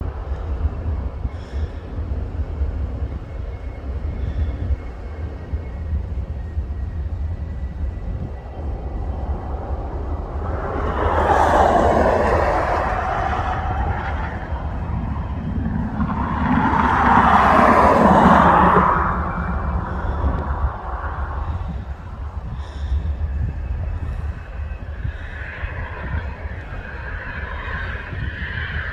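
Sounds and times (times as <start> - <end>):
jet engine roar: 0.0 - 28.9
steady low rumble: 0.0 - 28.9.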